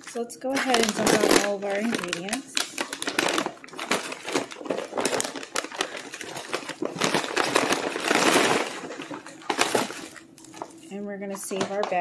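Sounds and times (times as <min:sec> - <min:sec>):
food packets clattering onto countertop: 0:00.0 - 0:10.8
paper bag rustling and crinkling: 0:00.0 - 0:12.0.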